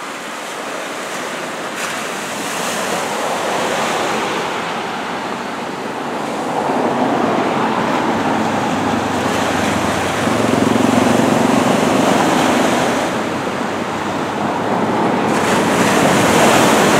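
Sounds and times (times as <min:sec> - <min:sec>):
small surf breaking on beach: 0:00.0 - 0:16.9.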